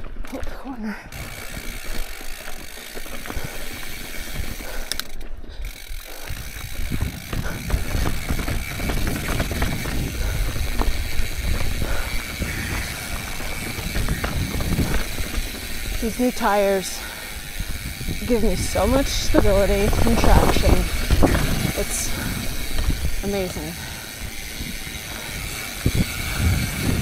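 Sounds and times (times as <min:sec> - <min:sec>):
bike chain and frame rattling: 0:00.0 - 0:27.0
bike tires knocking over rocks: 0:00.0 - 0:27.0
rear hub ticking: 0:01.1 - 0:27.0.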